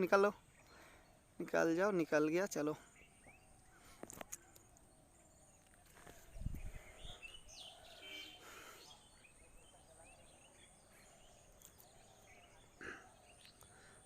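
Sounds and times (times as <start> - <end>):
faint bird chirps: 0.1 - 14.0.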